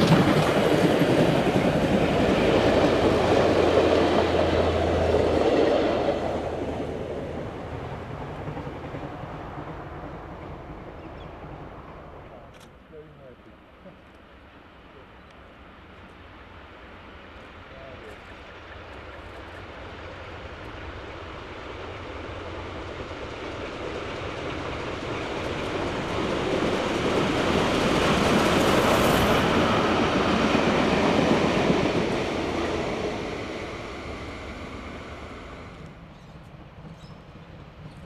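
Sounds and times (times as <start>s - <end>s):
steam train rolling on rails: 0.0s - 12.4s, 13.6s - 38.0s.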